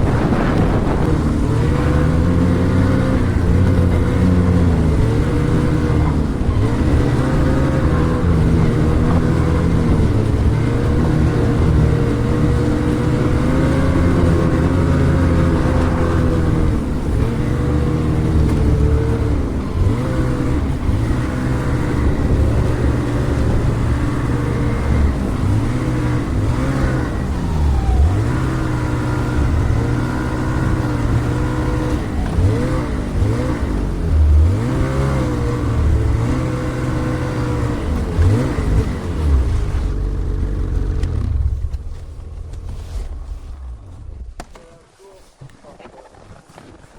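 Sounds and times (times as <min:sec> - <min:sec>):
snowmobile engine revving: 0:00.0 - 0:45.3.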